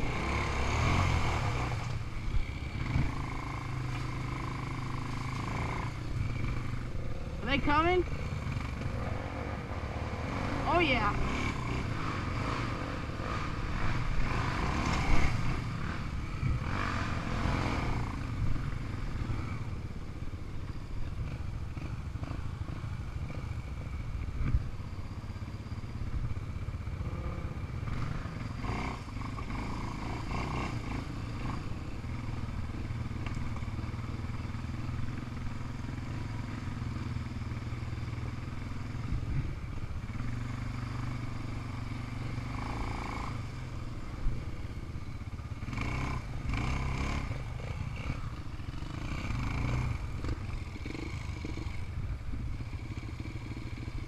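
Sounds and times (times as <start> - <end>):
off-road vehicle engine idling: 0.0 - 16.8, 17.8 - 54.0.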